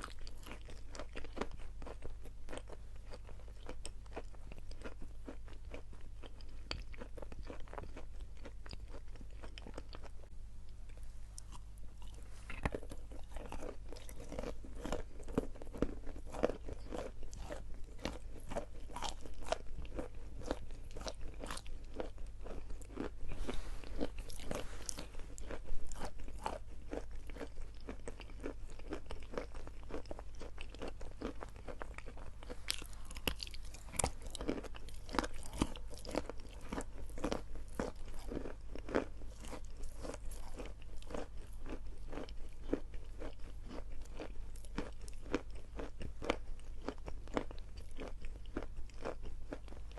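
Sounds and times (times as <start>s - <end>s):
crunching and chewing chalk: 0.0s - 49.9s.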